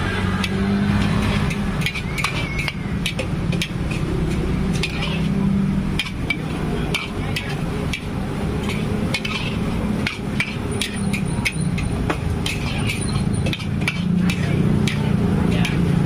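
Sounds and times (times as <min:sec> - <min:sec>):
food sizzling: 0:00.0 - 0:16.0
metal spatula scraping a wok: 0:00.0 - 0:16.0.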